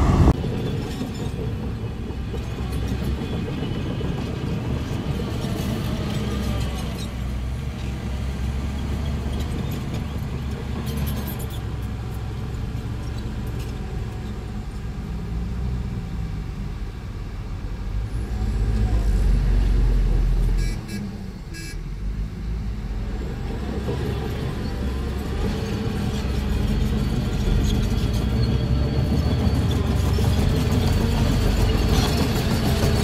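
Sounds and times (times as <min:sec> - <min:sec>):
bulldozer diesel engines under load: 0:00.0 - 0:33.0.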